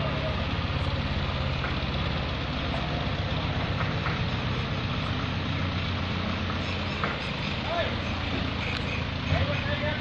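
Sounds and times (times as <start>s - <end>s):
large engine low rumble: 0.0s - 10.0s.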